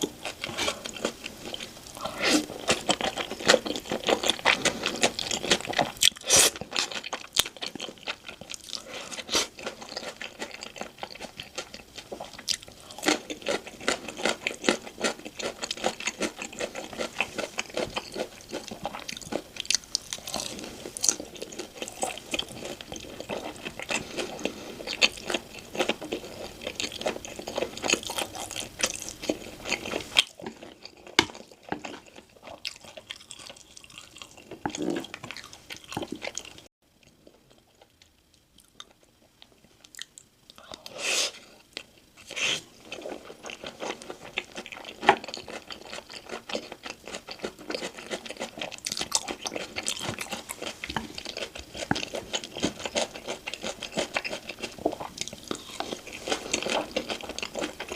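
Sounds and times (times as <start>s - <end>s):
crunching and chewing crisp food: 0.0s - 57.9s.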